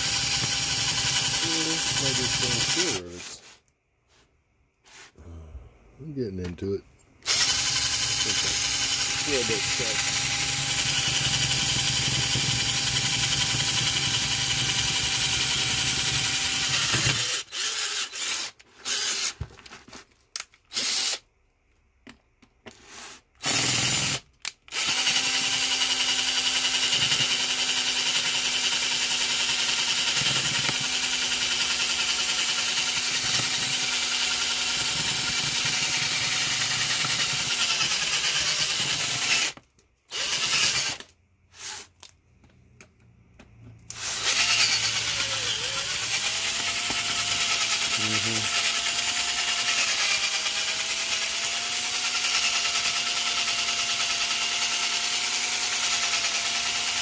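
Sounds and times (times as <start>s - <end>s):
electric drill boring into metal: 0.0s - 3.4s, 7.2s - 19.4s, 20.7s - 21.2s, 23.4s - 41.8s, 43.9s - 57.0s.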